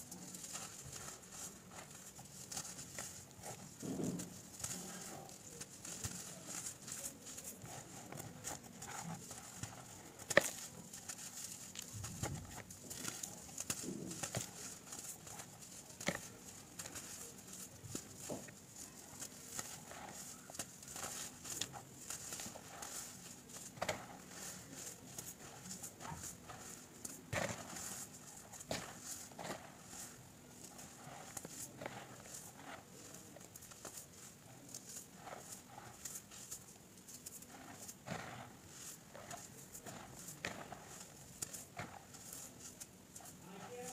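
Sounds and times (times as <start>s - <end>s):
hands crumbling baking soda clumps: 0.0s - 43.9s.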